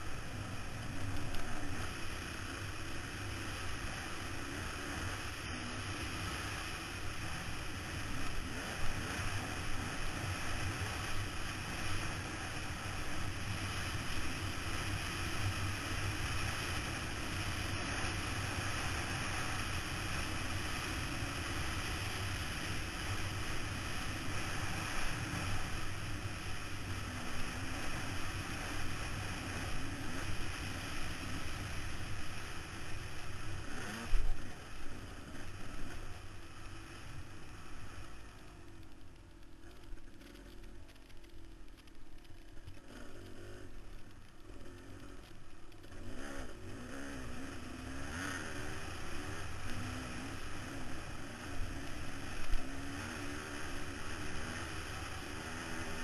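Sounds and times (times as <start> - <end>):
dirt bike engine running hard: 0.0 - 56.0.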